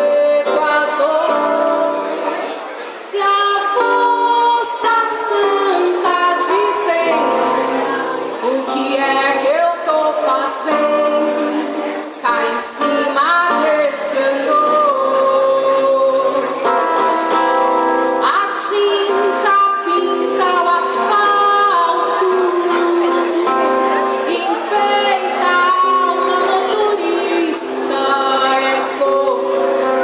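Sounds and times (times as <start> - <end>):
woman singing: 0.0 - 2.4, 3.1 - 16.6, 18.1 - 30.0.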